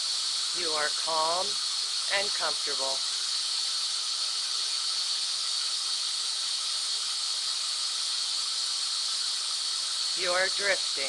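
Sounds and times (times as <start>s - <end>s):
white noise hiss: 0.0s - 11.0s.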